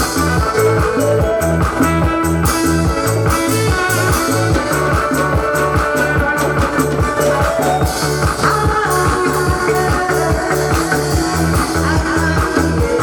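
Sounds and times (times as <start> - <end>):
guitar: 0.0 - 13.0
steady bass beat: 0.0 - 13.0.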